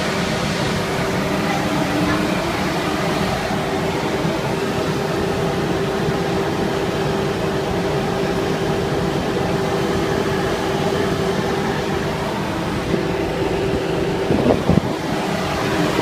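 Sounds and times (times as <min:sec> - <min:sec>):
air conditioner units whirring: 0:00.0 - 0:16.0
constant hum: 0:00.0 - 0:16.0.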